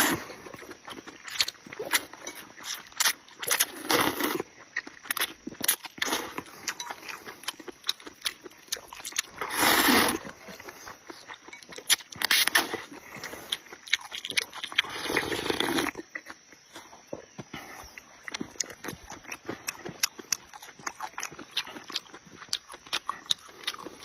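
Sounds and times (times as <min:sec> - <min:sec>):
chewing and wet mouth smacking: 0:00.0 - 0:03.7, 0:04.4 - 0:09.4, 0:10.2 - 0:24.0.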